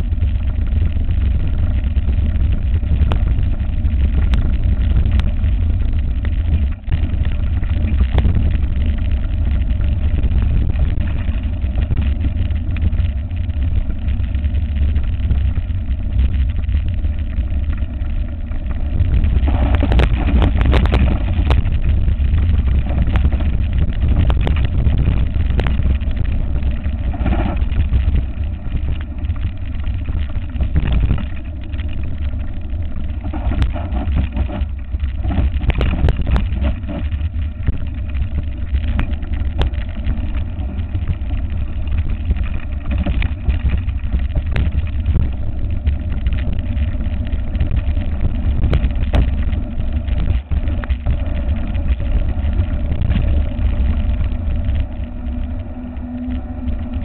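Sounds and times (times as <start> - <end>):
bike clicking and rattling: 0.0 - 57.0
bike tyres rolling on concrete: 0.0 - 57.0
wind buffeting microphone: 0.0 - 57.0.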